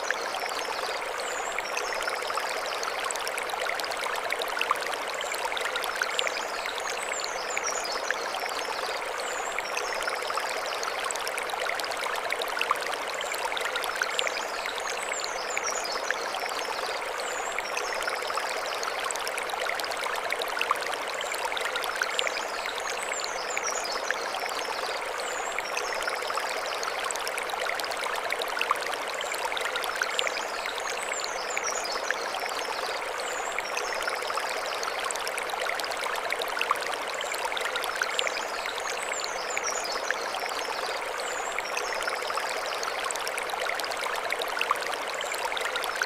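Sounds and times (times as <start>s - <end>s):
stream flowing over stones: 0.0s - 46.0s.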